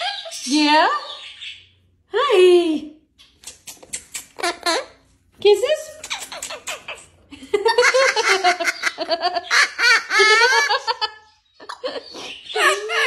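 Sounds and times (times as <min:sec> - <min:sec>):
parrot chattering and calling: 0:00.0 - 0:01.7, 0:03.2 - 0:05.0, 0:05.9 - 0:13.0.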